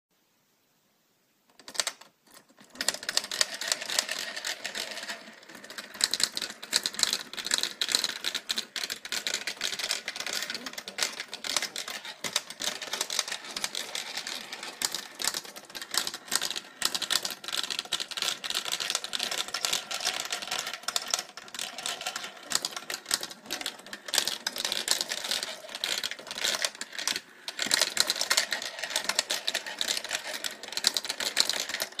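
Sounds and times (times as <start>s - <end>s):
steel marbles clattering: 1.6s - 32.0s.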